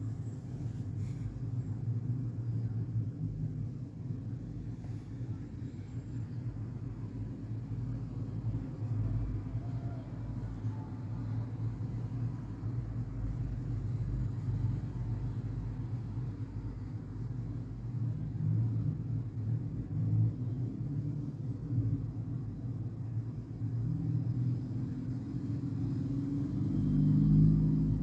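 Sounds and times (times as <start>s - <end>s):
steady low rumble: 0.0s - 26.7s.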